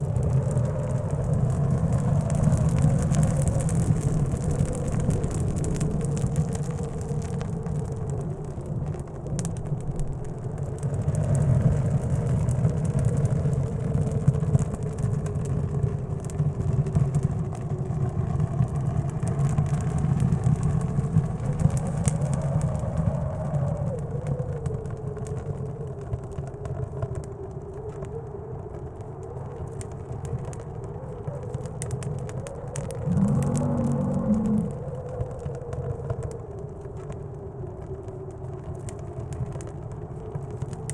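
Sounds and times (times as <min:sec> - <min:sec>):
howling blizzard wind: 0:00.0 - 0:40.9
wood stove fire crackling: 0:00.0 - 0:40.9.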